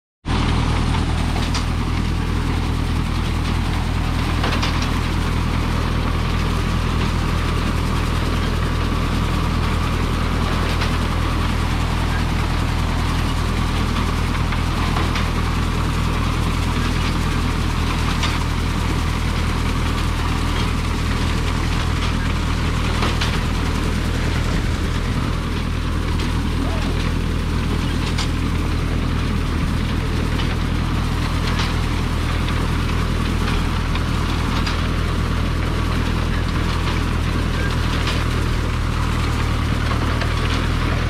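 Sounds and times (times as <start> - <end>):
tractor engine running: 0.2 - 41.0.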